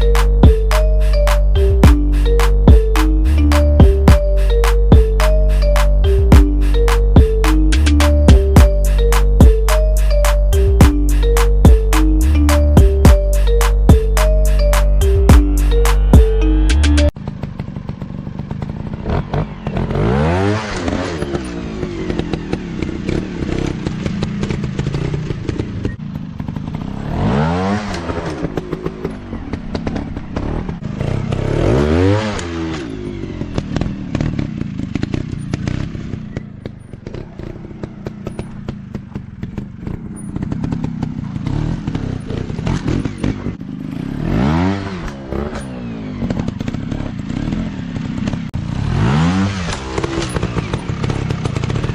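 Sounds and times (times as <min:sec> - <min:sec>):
dirt bike engines revving: 0:00.0 - 0:51.9
engine clattering: 0:00.0 - 0:51.9.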